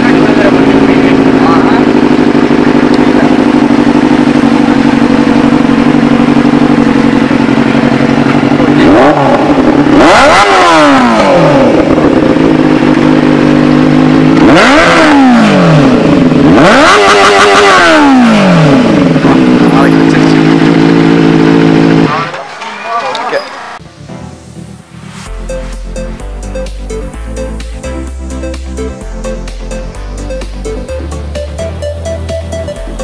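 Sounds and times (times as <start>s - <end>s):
motorcycle engine idling: 0.0s - 22.4s, 25.7s - 33.0s
engine throttle blips: 0.0s - 23.9s, 25.1s - 33.0s.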